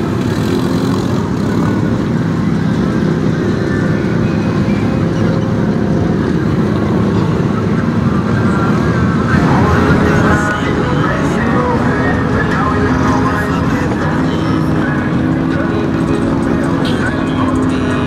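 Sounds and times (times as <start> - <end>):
atv engine running under load: 0.0 - 18.0.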